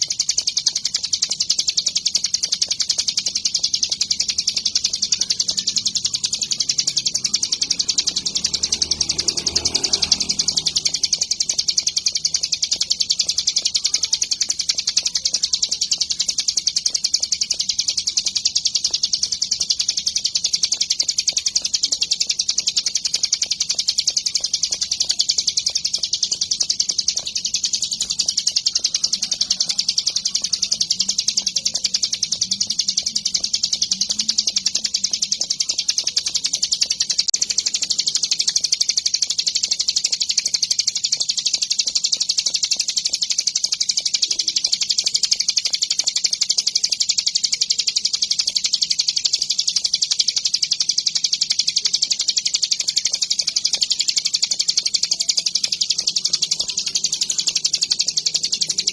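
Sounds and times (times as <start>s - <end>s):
bird singing rapid high trill: 0.0s - 58.9s.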